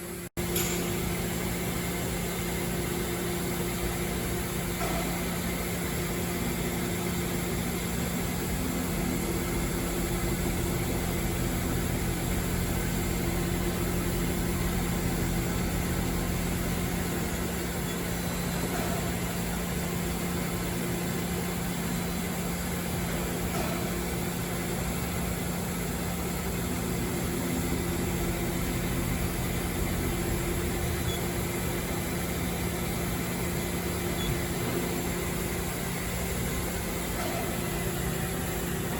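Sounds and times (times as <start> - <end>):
lathe machine hum: 0.0 - 38.9.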